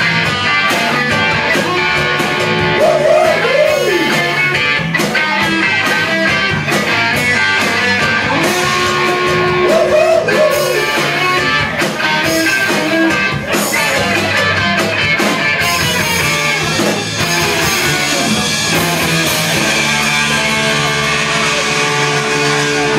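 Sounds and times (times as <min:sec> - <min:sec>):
rock band playing: 0:00.0 - 0:22.9.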